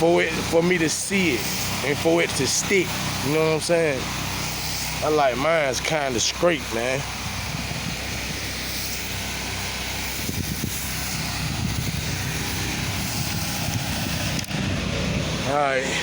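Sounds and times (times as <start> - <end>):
pressure washer engine running: 0.0 - 16.0
spray hissing onto concrete: 0.0 - 16.0.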